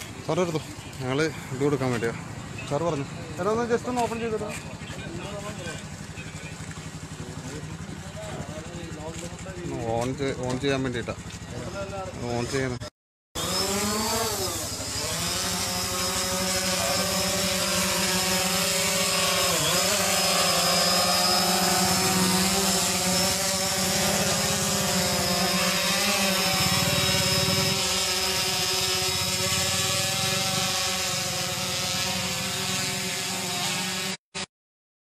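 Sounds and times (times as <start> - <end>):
drone propellers buzzing whine: 0.0 - 34.2.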